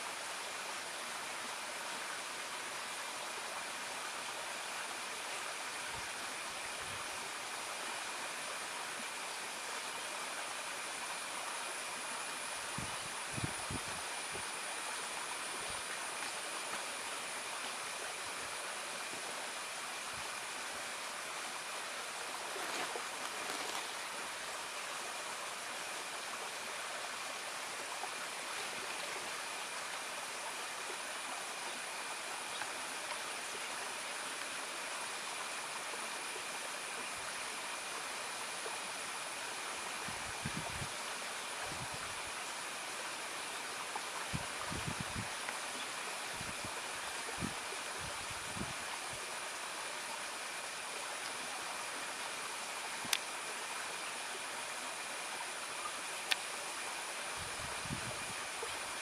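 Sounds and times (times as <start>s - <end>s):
rushing water noise: 0.0s - 59.0s.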